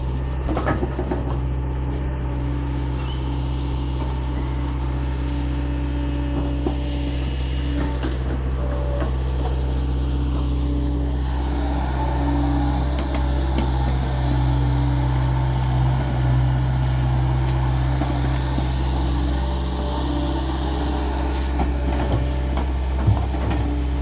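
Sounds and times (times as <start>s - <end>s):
excavator diesel engine running: 0.0s - 24.0s
hydraulic whine: 2.7s - 24.0s.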